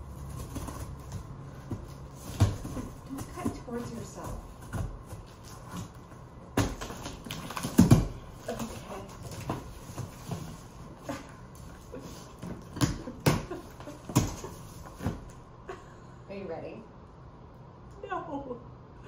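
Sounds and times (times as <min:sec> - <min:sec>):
cardboard rustling: 0:00.0 - 0:15.4.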